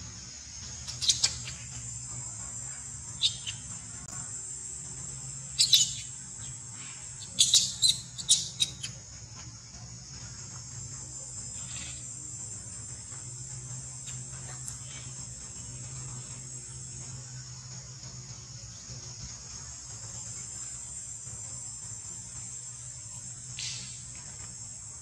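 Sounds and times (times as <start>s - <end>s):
insect drone: 0.0s - 25.0s.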